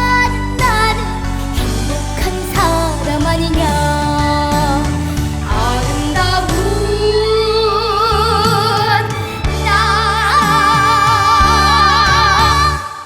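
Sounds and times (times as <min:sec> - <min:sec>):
backing band: 0:00.0 - 0:13.0.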